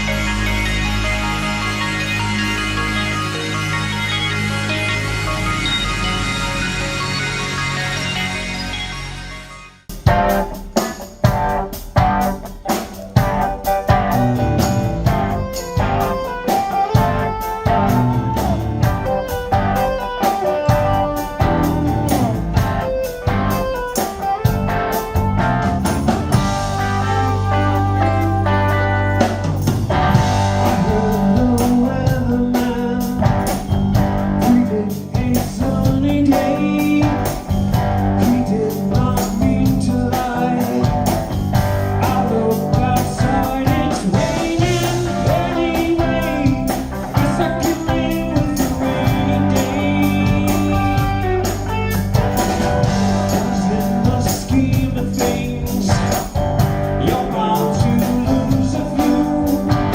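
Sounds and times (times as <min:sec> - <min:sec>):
band playing soft rock: 0:00.0 - 0:59.9.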